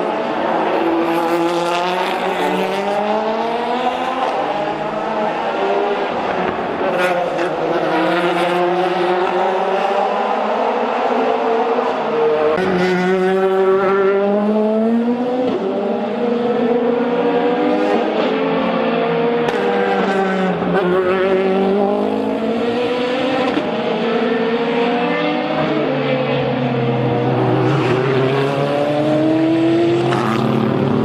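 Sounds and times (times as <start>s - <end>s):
race car engine accelerating: 0.1s - 31.0s.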